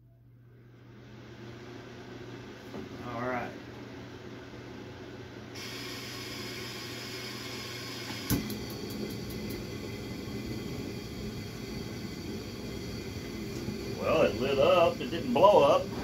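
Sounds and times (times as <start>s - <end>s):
heater fan rushing: 0.2s - 16.0s.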